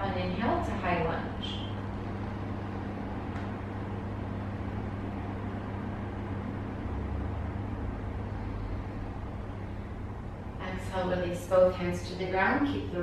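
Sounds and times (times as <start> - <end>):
constant low hum: 0.0 - 13.0
low background rumble: 0.0 - 13.0.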